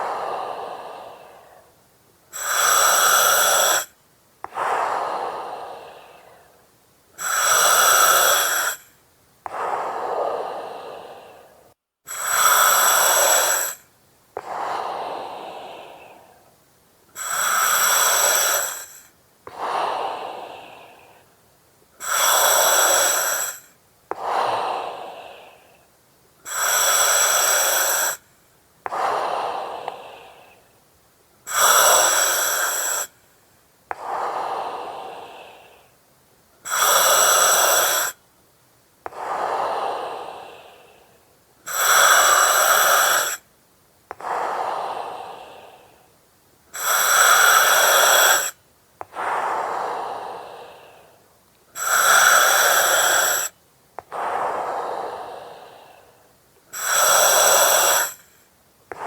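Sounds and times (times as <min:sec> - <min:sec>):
breathing through oxygen mask: 0:00.0 - 0:06.6, 0:07.2 - 0:08.9, 0:09.5 - 0:16.5, 0:17.2 - 0:21.2, 0:22.0 - 0:25.8, 0:26.4 - 0:30.6, 0:31.5 - 0:33.2, 0:36.6 - 0:38.2, 0:39.1 - 0:41.1, 0:41.7 - 0:43.4, 0:44.1 - 0:46.0, 0:46.7 - 0:59.0.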